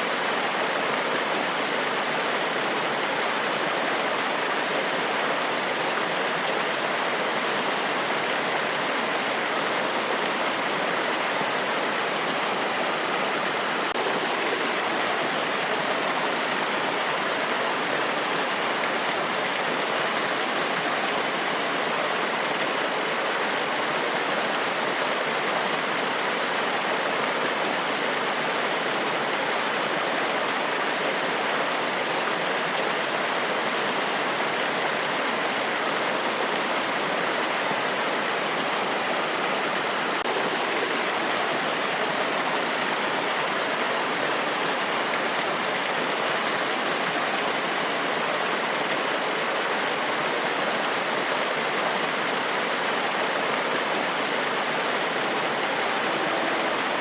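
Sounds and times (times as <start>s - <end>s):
waterfall cascading over rocks: 0.0s - 57.0s.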